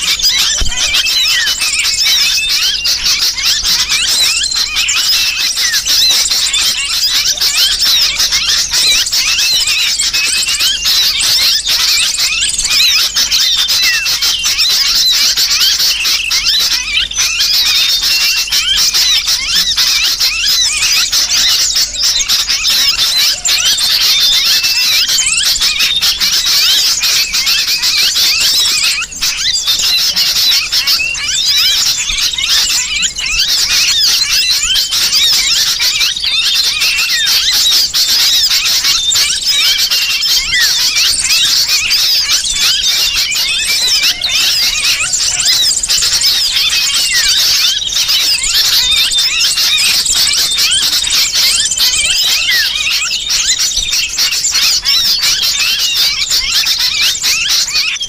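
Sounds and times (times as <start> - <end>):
bird distress calls: 0.0 - 58.0
many small birds chattering: 0.0 - 58.0.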